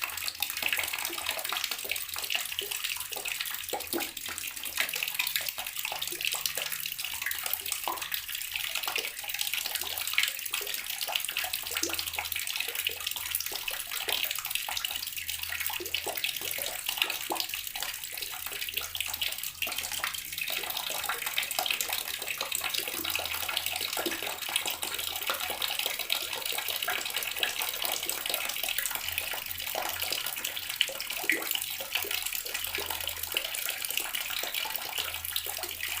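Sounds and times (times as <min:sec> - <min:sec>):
water running from a tap: 0:00.0 - 0:36.0.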